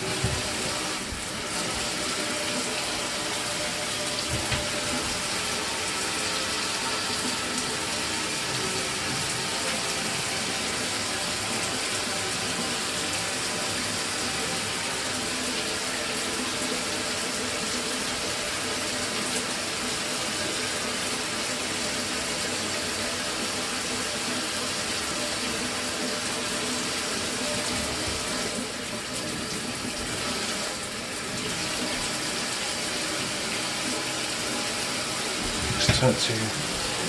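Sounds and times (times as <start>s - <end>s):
shower water spraying: 0.0s - 17.5s, 24.7s - 37.0s.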